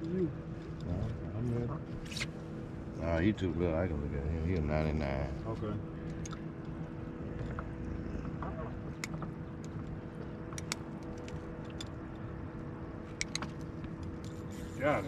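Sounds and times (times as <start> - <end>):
low hum: 0.0 - 15.0
low rumble: 0.0 - 15.0.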